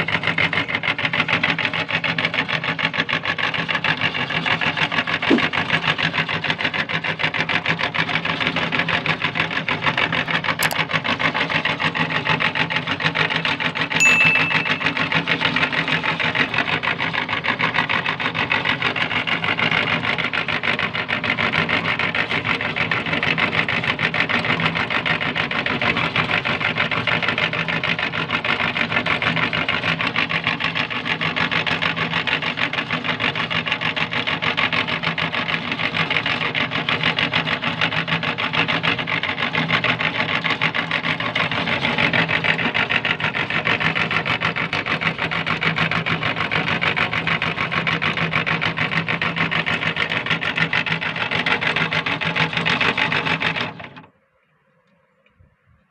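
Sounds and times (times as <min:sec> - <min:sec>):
meat grinder running: 0:00.0 - 0:13.9, 0:16.1 - 0:54.0.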